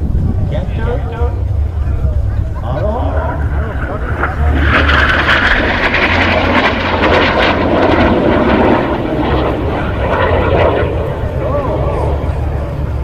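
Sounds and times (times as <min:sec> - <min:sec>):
jet fighters flying past: 0:00.4 - 0:13.0.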